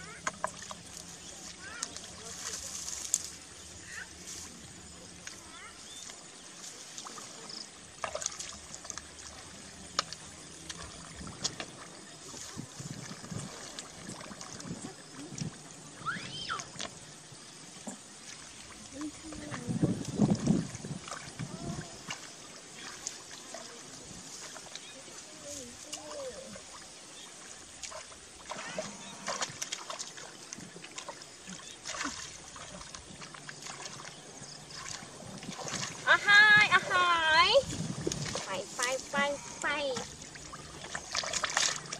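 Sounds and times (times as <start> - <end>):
sloshing in muddy water: 0.0 - 41.9
water trickling: 0.0 - 41.9.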